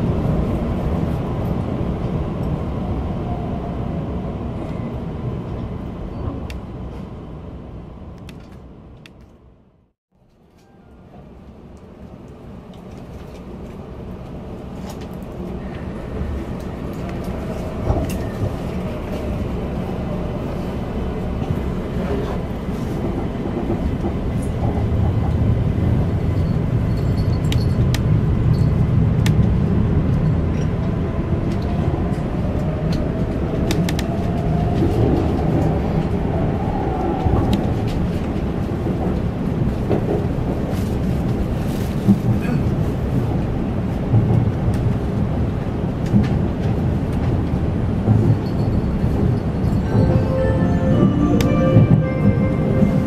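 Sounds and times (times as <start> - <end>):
train running noise: 10.3 - 53.0.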